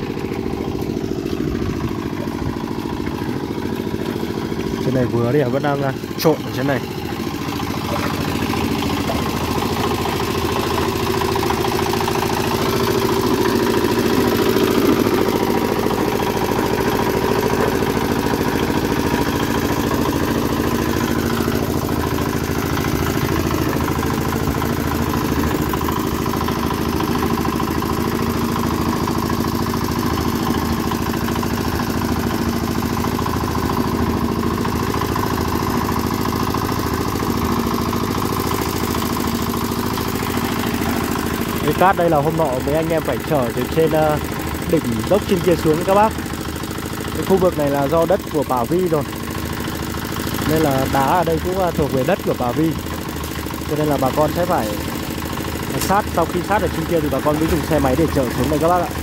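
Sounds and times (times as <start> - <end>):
concrete mixer engine running: 0.0 - 59.0.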